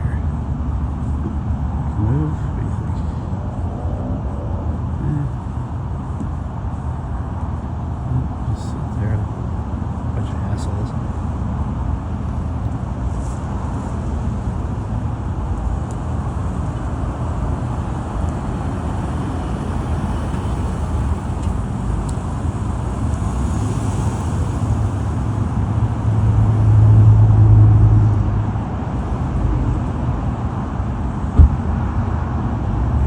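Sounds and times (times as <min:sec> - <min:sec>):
deep drone: 0:00.0 - 0:12.6, 0:14.1 - 0:33.0
vehicle engine rumble: 0:00.0 - 0:33.0.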